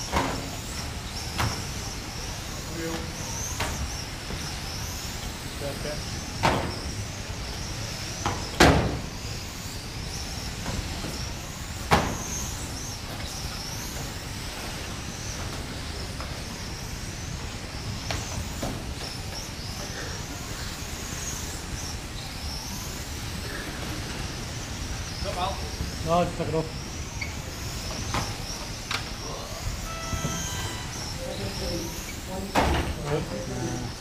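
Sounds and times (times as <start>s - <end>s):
rc car motors whining: 0.0s - 34.0s.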